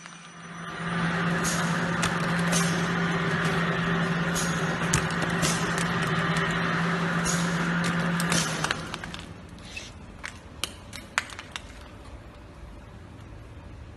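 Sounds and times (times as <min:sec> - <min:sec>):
packing machine hum: 0:00.0 - 0:12.5.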